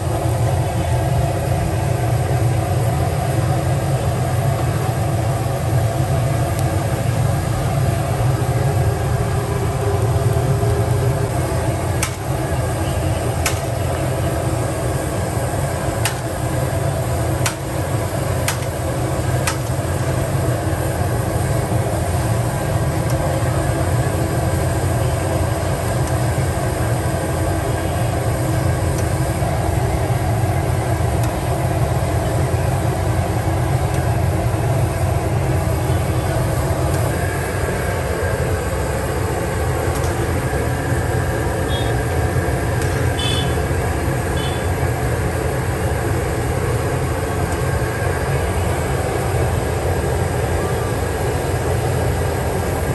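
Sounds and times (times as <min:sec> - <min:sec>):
oil bubbling and sizzling: 0:00.0 - 0:44.6.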